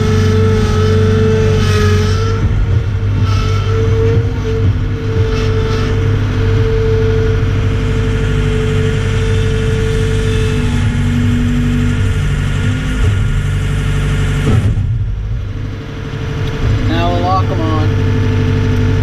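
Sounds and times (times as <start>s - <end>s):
engine whine: 0.0s - 19.0s
skid steer engine running: 0.0s - 19.0s.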